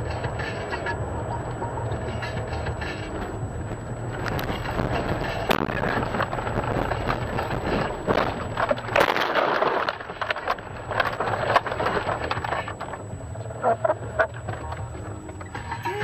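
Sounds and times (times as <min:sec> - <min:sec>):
car engine and tyres rumbling: 0:00.0 - 0:16.0
loud crunch: 0:00.0 - 0:16.0.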